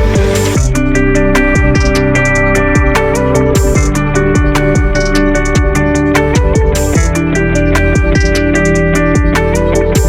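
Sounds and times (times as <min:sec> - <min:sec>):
electronic beat with kick drum: 0:00.0 - 0:10.0
plucked guitar-like notes: 0:00.0 - 0:10.0.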